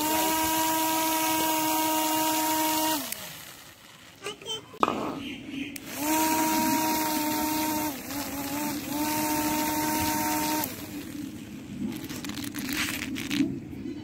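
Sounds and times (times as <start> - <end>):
electric motor whining: 0.0 - 4.2, 5.8 - 13.4
propeller air rush: 0.0 - 4.9, 5.8 - 13.7.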